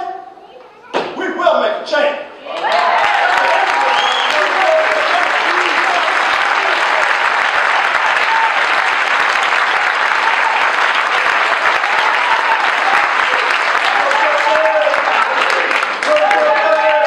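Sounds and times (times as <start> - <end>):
audience applause: 2.5 - 17.0.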